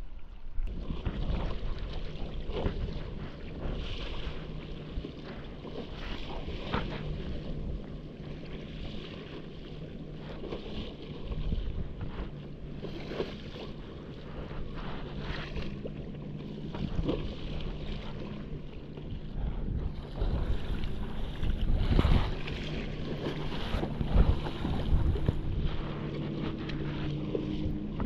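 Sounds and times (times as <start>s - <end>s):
steady low hum: 0.0s - 28.0s
paddle strokes splashing water: 0.1s - 28.0s
wind buffeting microphone: 0.7s - 28.0s.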